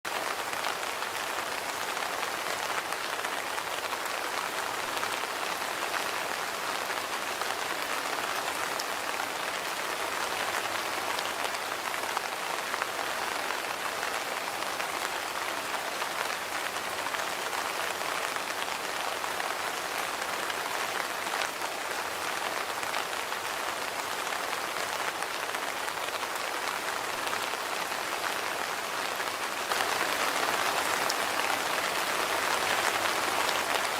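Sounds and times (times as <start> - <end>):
rain pattering: 0.1 - 33.9.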